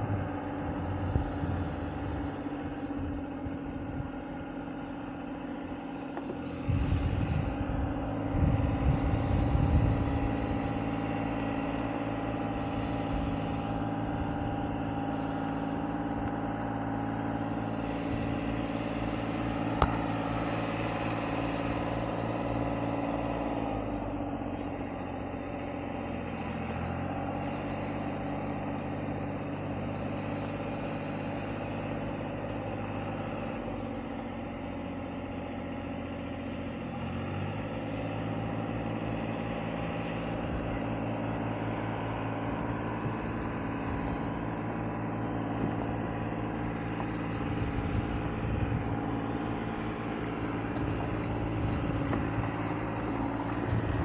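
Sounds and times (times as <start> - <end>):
motor drone: 0.0 - 54.0.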